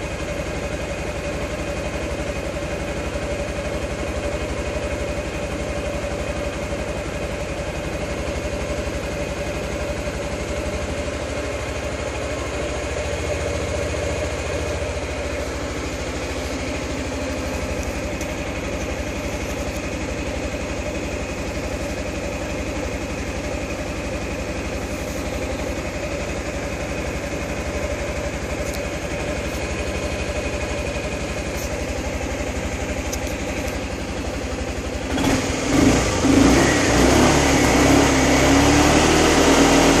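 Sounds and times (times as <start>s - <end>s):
scooter engine idling: 0.0s - 40.0s.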